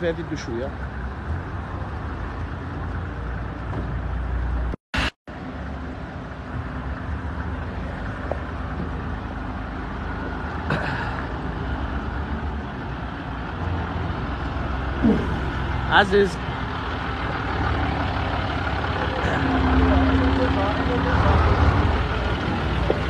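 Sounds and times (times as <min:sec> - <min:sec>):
bus engine idling: 0:00.0 - 0:23.0.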